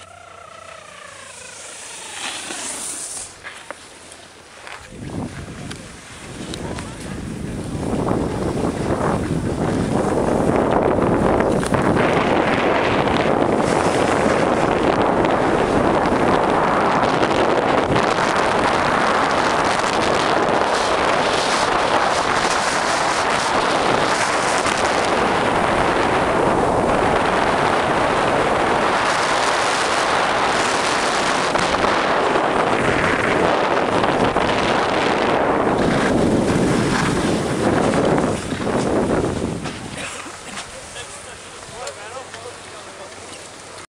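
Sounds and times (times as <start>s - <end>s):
wind on microphone: 0.0s - 42.3s
snowboard edges scraping snow: 1.3s - 7.2s, 11.7s - 16.8s, 18.1s - 42.3s.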